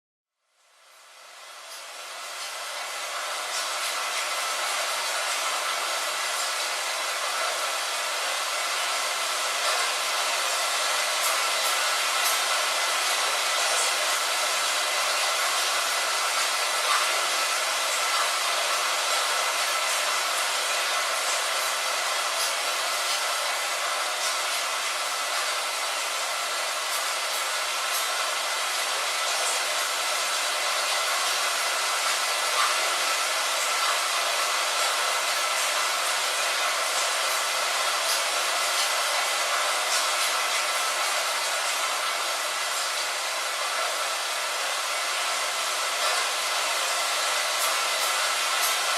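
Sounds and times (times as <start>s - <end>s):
rain on a window: 0.5s - 48.9s.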